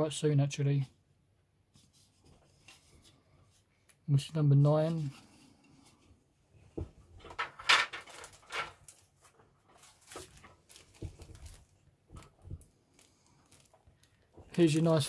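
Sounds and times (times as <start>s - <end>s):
parts rustling and scraping: 1.7s - 4.0s, 4.6s - 15.0s.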